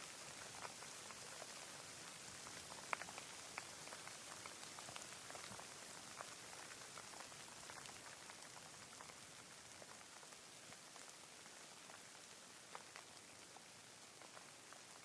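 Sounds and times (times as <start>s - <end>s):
faint rain hiss: 0.0s - 15.0s.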